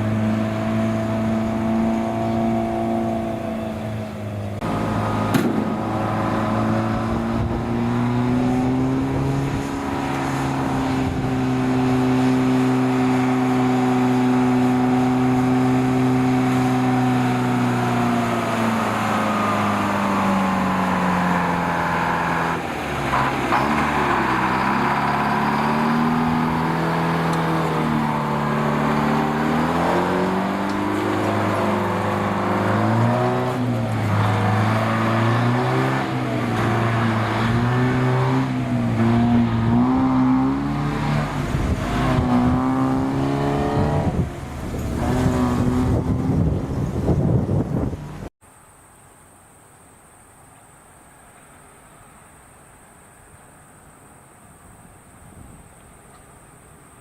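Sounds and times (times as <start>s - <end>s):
diesel truck engine under load: 0.0s - 48.3s.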